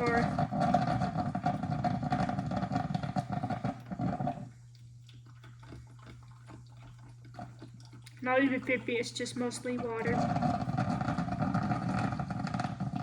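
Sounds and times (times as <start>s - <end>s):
coffee maker gurgling: 0.0s - 13.0s
ticking drips: 0.0s - 13.0s.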